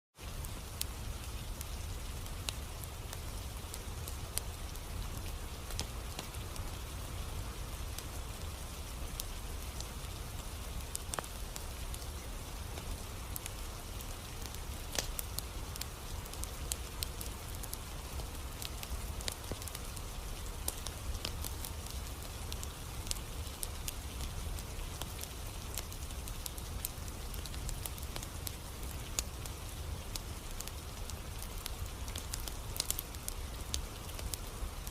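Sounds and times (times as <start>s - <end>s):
rain patter: 0.1s - 34.9s
fire crackling and popping: 0.2s - 34.9s.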